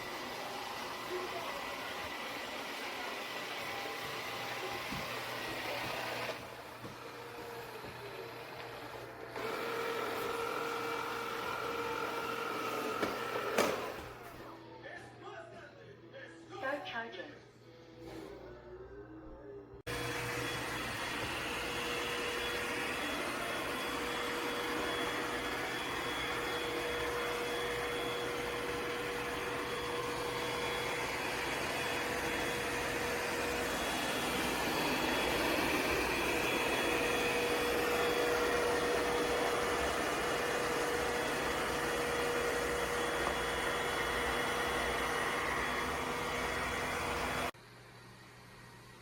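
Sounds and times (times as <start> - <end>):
robot vacuum whirring: 0.0 - 14.3, 19.9 - 47.6.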